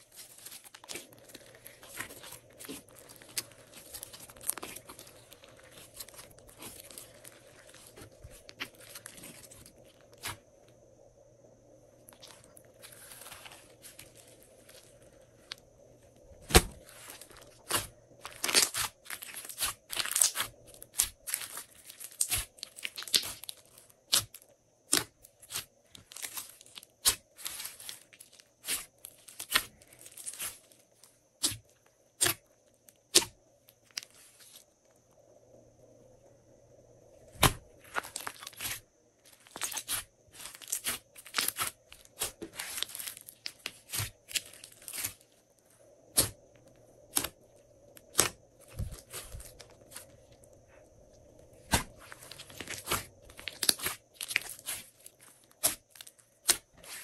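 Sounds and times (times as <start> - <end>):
wet slime crackling: 0.0 - 10.8, 11.9 - 34.7, 37.3 - 57.0.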